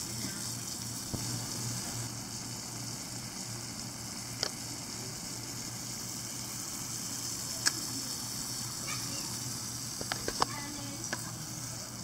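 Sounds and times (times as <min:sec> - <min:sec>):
steak sizzling in a frying pan: 0:00.0 - 0:12.0.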